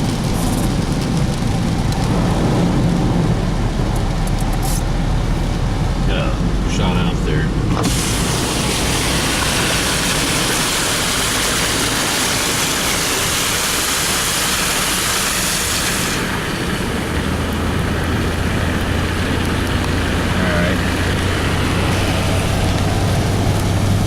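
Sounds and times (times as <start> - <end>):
low engine hum: 0.0 - 13.4, 16.2 - 24.0
tyres spraying floodwater: 0.0 - 24.0.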